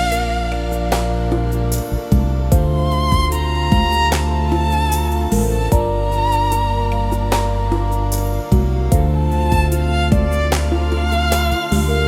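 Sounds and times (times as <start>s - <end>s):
low sustained notes: 0.0s - 12.0s
wavering violin melody: 0.0s - 12.0s.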